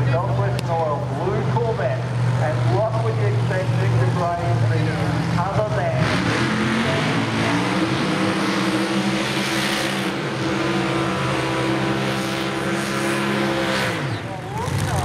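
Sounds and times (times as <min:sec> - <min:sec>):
drag racing car engine rumbling: 0:00.0 - 0:15.0.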